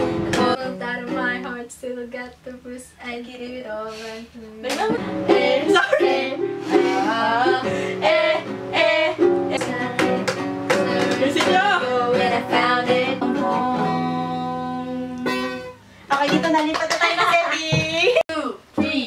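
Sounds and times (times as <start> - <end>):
acoustic guitar and ukulele strumming: 0.0 - 18.2
women singing: 0.3 - 18.2.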